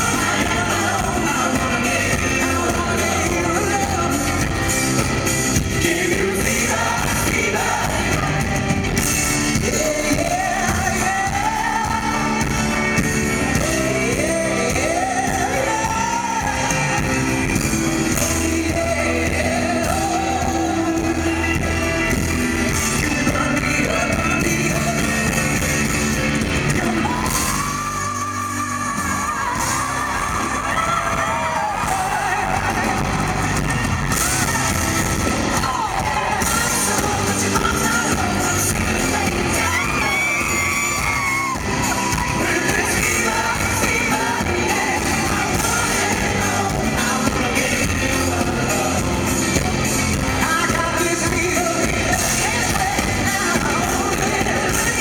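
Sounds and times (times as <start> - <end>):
man singing into a microphone: 0.0 - 8.8, 9.5 - 33.4, 35.5 - 55.0
live pop-rock band: 0.0 - 55.0.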